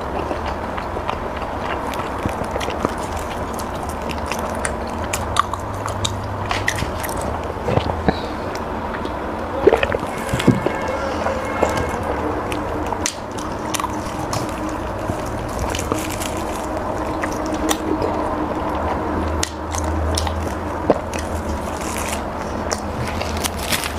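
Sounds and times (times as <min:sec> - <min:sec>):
person chewing wet food: 0:00.0 - 0:23.9
steady low hum: 0:00.0 - 0:23.9.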